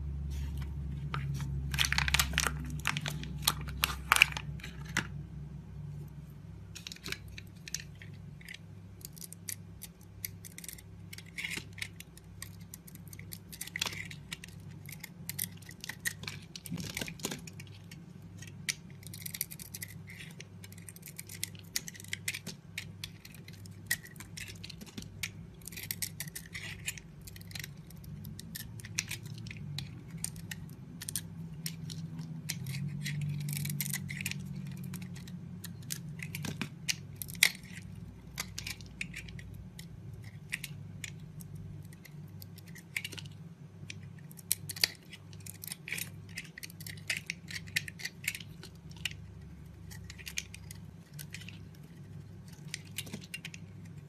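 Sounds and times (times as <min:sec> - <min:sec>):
low steady hum: 0:00.0 - 0:54.0
knife scraping soap: 0:06.8 - 0:54.0.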